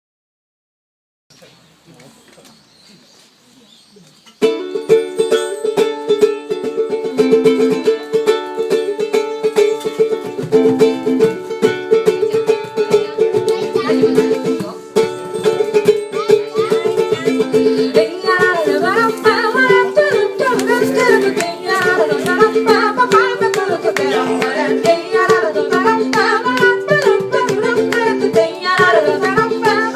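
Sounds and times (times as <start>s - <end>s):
plucked strings strumming chords: 4.4s - 29.9s.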